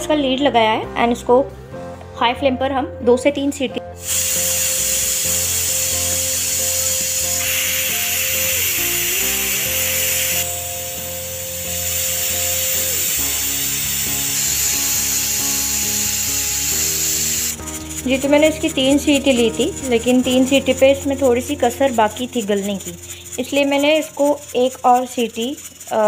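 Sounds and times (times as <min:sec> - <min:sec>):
background music with held notes: 0:00.0 - 0:26.0
pressure cooker whistling: 0:04.0 - 0:26.0
steam hissing: 0:04.0 - 0:26.0.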